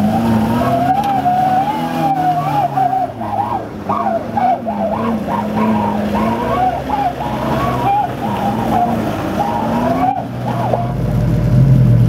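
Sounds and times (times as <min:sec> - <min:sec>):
truck engine revving: 0:00.0 - 0:12.0
wheels spinning in mud: 0:00.0 - 0:12.0.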